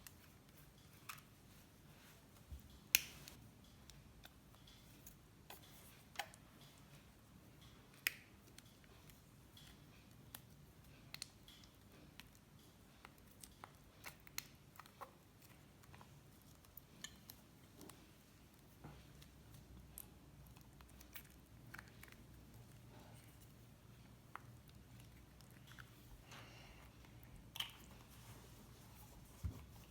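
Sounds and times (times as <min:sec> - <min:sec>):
faint room hum: 0:00.0 - 0:29.9.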